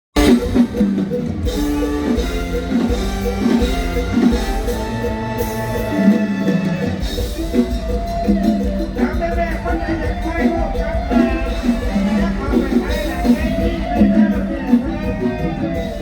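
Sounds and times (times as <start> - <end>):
bass and drum beat: 0.0 - 16.0.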